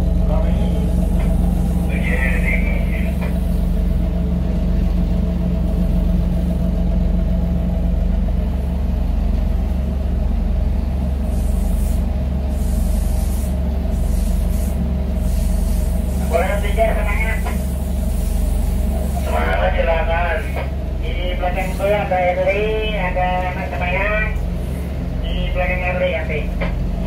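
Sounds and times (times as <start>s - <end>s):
ship engine low drone: 0.0s - 27.0s.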